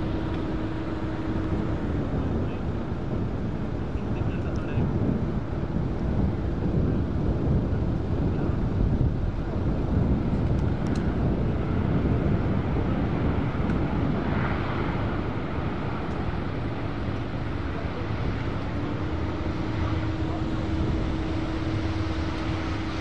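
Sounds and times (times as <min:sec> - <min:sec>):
steady propeller tone: 0:00.0 - 0:23.0
turboprop aircraft rumble: 0:00.0 - 0:23.0.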